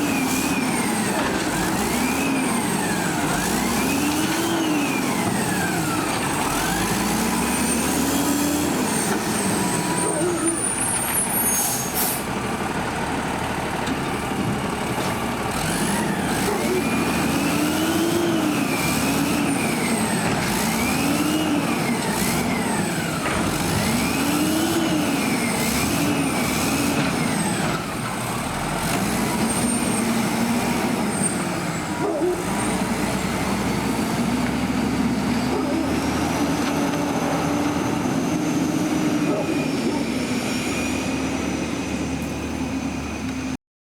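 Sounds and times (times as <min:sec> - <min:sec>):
garbage truck diesel engine revving: 0:00.0 - 0:43.6.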